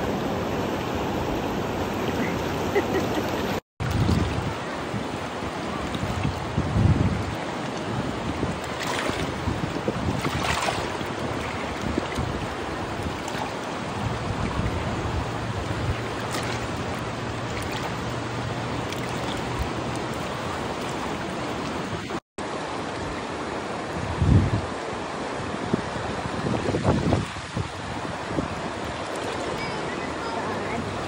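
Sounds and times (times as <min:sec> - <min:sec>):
wind buffeting microphone: 0:01.0 - 0:22.2, 0:24.0 - 0:24.8, 0:25.4 - 0:31.0.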